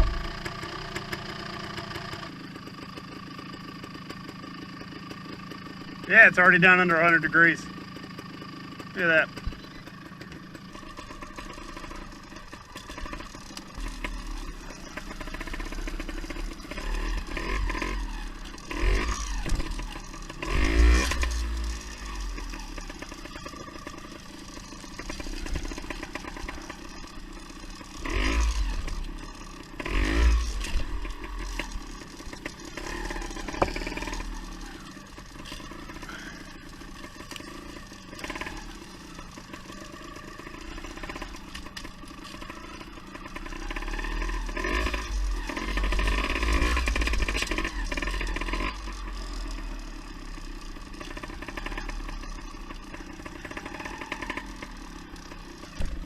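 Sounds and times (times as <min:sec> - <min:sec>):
steady rattle: 0:00.0 - 0:56.0
two-stroke engine idling and revving: 0:00.0 - 0:56.0.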